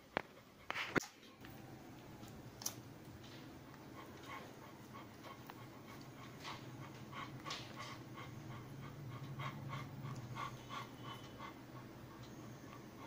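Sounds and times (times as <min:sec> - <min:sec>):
dog panting: 0:00.0 - 0:01.0, 0:03.2 - 0:13.0.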